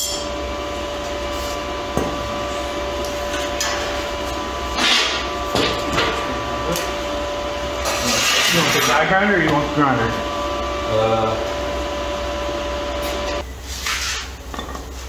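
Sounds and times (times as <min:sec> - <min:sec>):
steady shop hum: 0:00.0 - 0:15.0.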